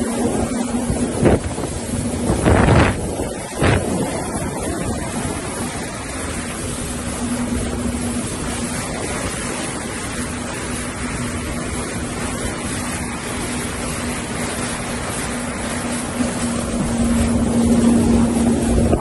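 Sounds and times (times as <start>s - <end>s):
jet ski engine running: 0.0s - 19.0s
wind and water noise: 0.0s - 19.0s.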